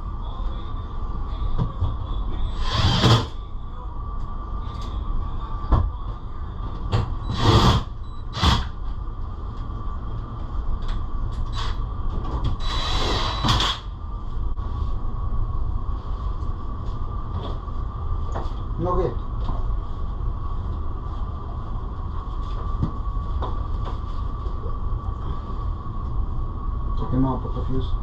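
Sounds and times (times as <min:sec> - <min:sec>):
air conditioning humming: 0:00.0 - 0:28.0
thin steady whine: 0:00.0 - 0:28.0.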